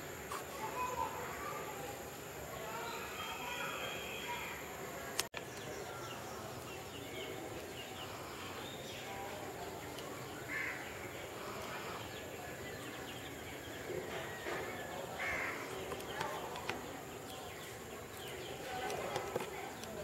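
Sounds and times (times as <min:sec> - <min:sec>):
open-air background noise: 0:00.0 - 0:20.0.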